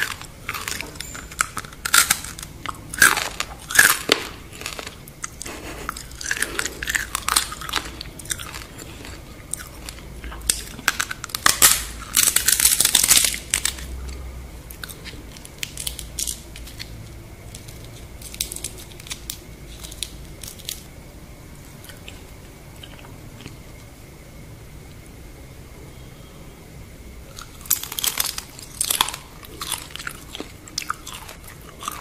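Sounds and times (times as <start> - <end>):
fried shell crunching: 0.0 - 21.0, 27.3 - 32.0.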